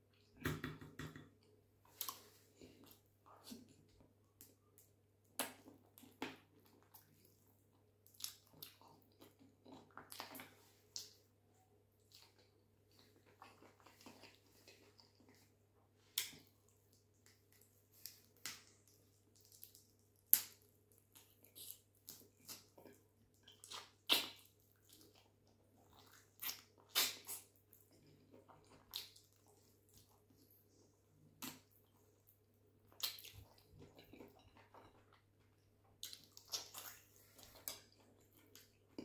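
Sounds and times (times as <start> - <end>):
wet chewing and lip smacks: 1.4 - 11.3, 12.0 - 30.8, 31.4 - 39.0.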